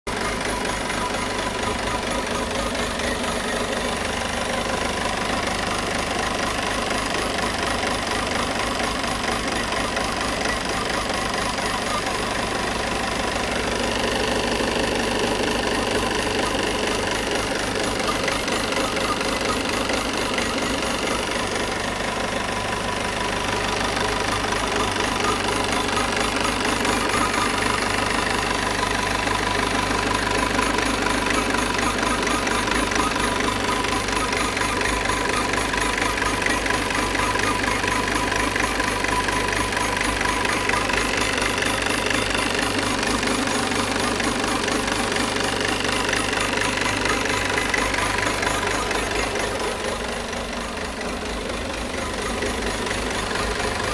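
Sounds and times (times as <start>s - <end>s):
strange engine noise: 0.0s - 53.9s
diesel engine idling: 0.1s - 53.9s.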